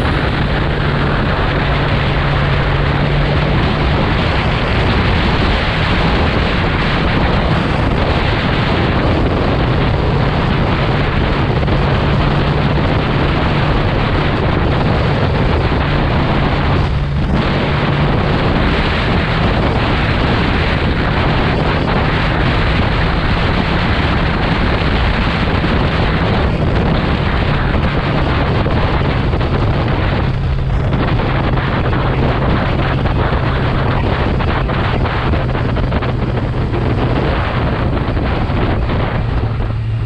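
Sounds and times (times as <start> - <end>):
motorcycle engine cruising: 0.0 - 40.0
wind rushing over microphone: 0.0 - 40.0.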